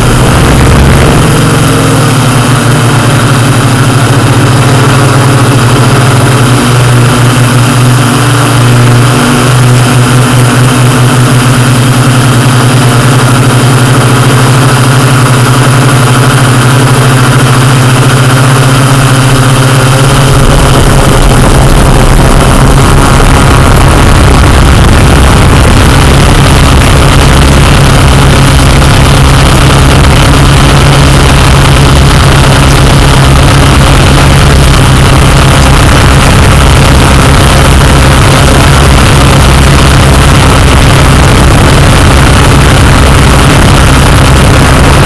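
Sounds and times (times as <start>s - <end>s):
drone propellers buzzing: 0.0s - 45.0s.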